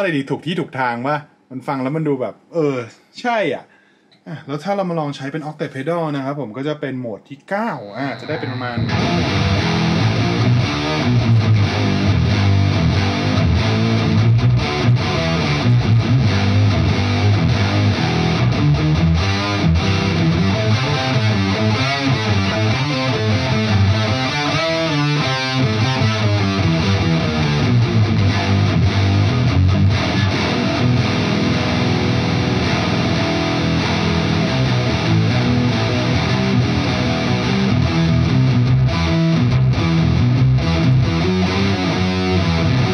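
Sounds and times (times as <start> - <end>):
distorted electric guitar: 7.8 - 42.9.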